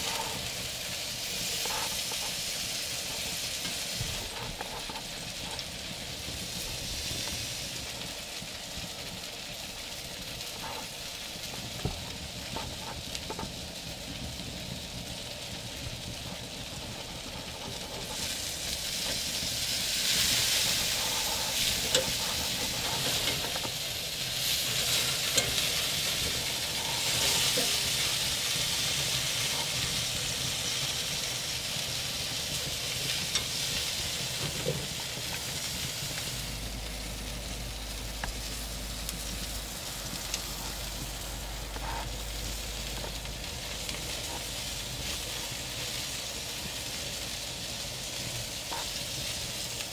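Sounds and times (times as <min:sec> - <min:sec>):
sausages sizzling on grill: 0:00.0 - 0:49.9
wood fire crackles: 0:00.0 - 0:49.9.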